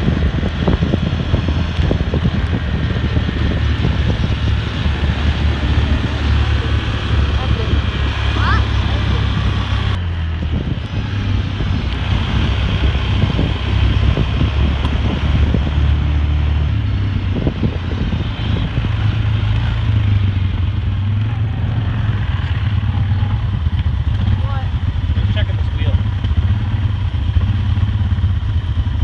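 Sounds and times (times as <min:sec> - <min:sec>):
motor vehicle rumble: 0:00.0 - 0:29.0
road or wind noise: 0:00.0 - 0:29.0.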